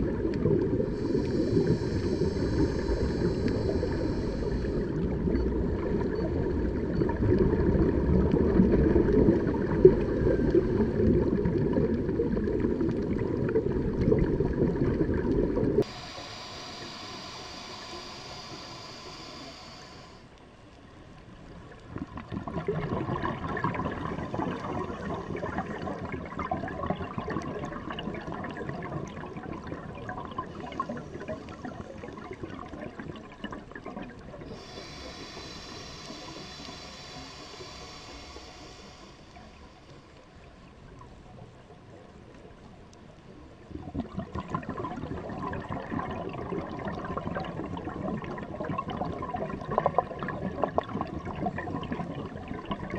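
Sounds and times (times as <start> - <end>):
diver's exhaust bubbles: 0.0 - 19.7, 22.0 - 39.1, 43.7 - 52.9
underwater rush: 0.0 - 52.9.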